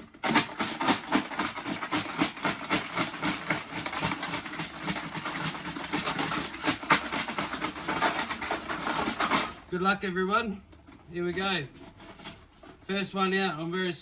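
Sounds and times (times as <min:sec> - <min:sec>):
wooden sticks rattling in bucket: 0:00.0 - 0:10.0, 0:10.6 - 0:13.2.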